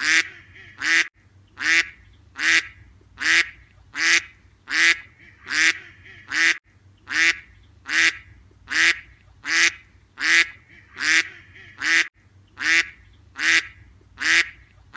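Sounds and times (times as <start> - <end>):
duck quacking harshly: 0.0 - 14.6.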